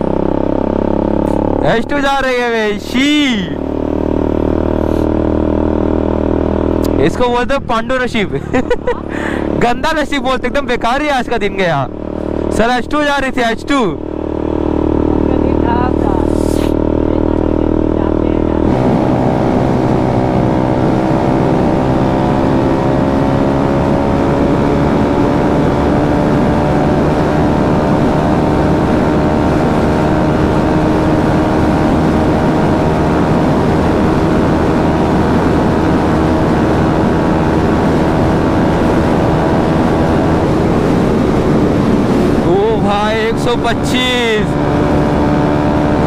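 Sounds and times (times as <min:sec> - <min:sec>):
motorcycle engine running: 0:00.0 - 0:46.0
road and wind noise: 0:00.0 - 0:46.0.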